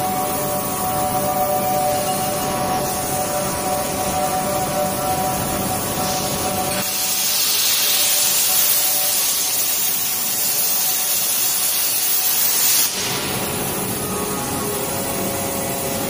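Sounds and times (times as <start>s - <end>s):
cutting torch hissing: 0.0s - 16.0s.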